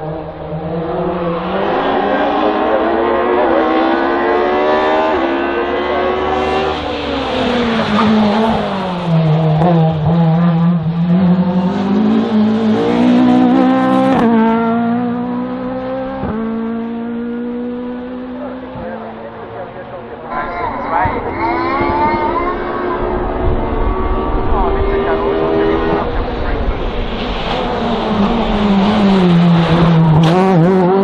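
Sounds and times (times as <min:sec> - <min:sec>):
race car engine revving: 0:00.0 - 0:31.0.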